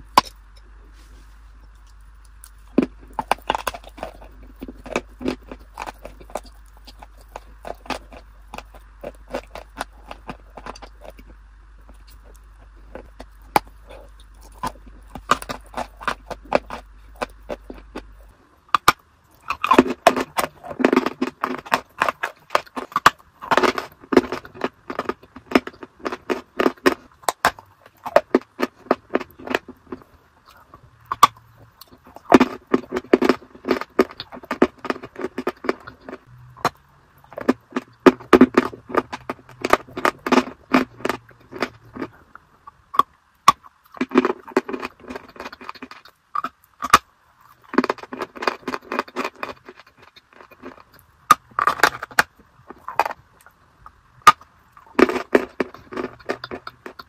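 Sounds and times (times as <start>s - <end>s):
chewing and crunching: 0.0s - 57.0s.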